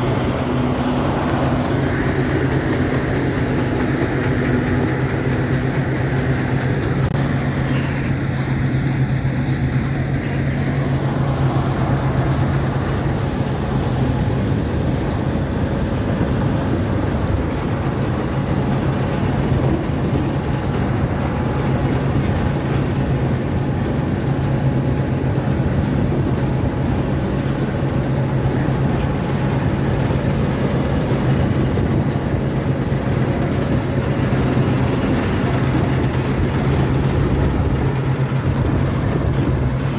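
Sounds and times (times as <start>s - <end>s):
diesel engine droning: 0.0s - 39.9s
machinery noise: 0.0s - 39.9s.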